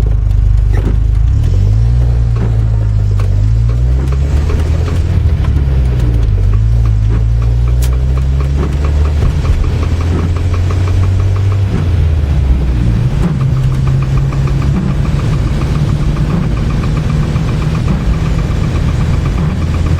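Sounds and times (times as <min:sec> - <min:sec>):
engine idling with knock: 0:00.0 - 0:19.9.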